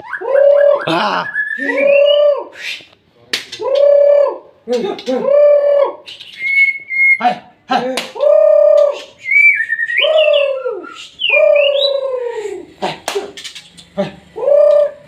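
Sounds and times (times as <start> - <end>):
low cooing bird calls: 0.0 - 2.8, 3.5 - 7.4, 8.1 - 15.0.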